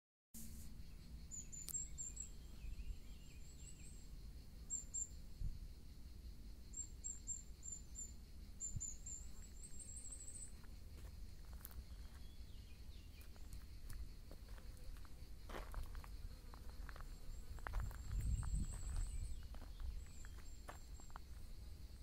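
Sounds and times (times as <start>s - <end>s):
faint lower twittering: 0.4s - 22.0s
small birds chirping: 0.8s - 5.8s, 6.6s - 22.0s.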